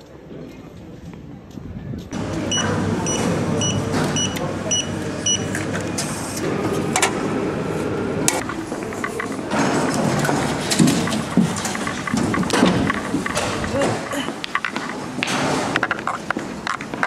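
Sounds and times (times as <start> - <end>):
station background noise: 0.0 - 17.0.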